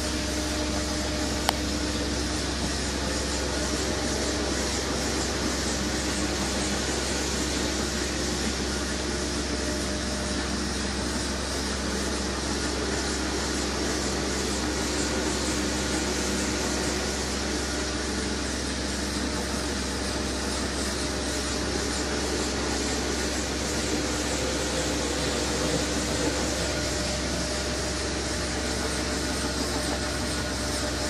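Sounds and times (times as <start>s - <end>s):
carpet cleaner suction: 0.0s - 31.0s
low motor hum: 0.0s - 31.0s.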